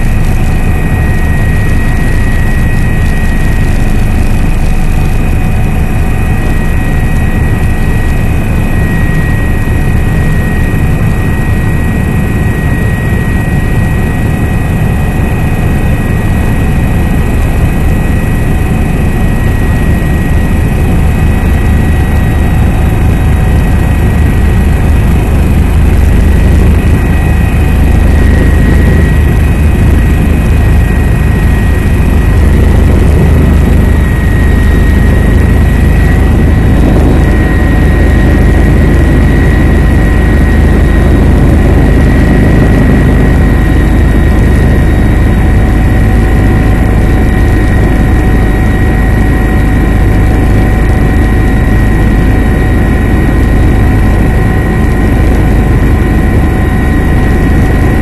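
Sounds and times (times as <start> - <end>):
helicopter rotor and engine noise: 0.0 - 58.0
thin steady whine: 0.0 - 58.0.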